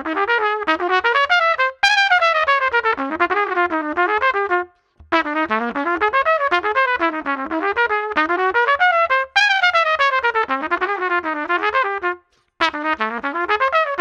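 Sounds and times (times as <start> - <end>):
solo trumpet playing fast runs: 0.0 - 14.0.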